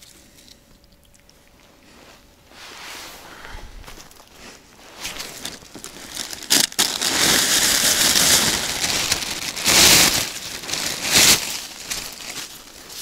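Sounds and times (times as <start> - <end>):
plastic bag rustling and crinkling: 1.9 - 13.0.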